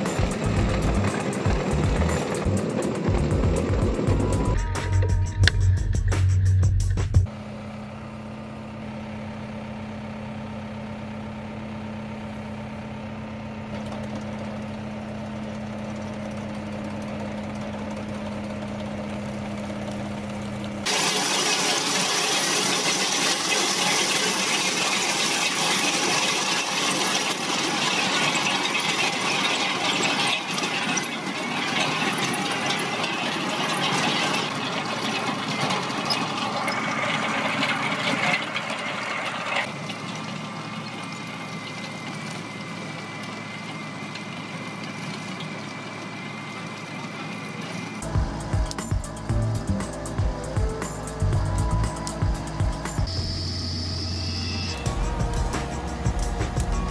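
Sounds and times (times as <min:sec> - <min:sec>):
ditch-cleaning machine humming: 0:00.0 - 0:06.0, 0:07.3 - 0:56.9
trencher engine under load: 0:00.0 - 0:06.2, 0:07.2 - 0:56.9.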